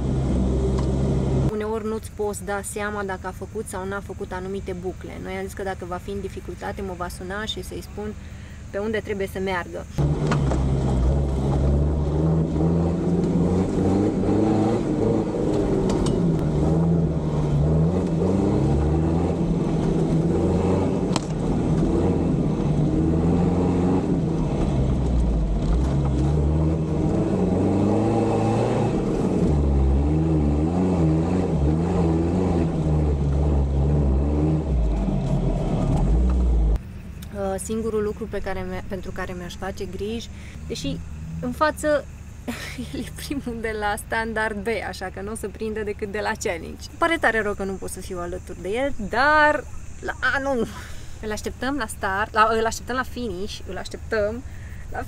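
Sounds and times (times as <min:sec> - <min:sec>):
off-road vehicle engine revving: 0:00.0 - 0:01.8, 0:09.9 - 0:37.1, 0:38.1 - 0:55.0.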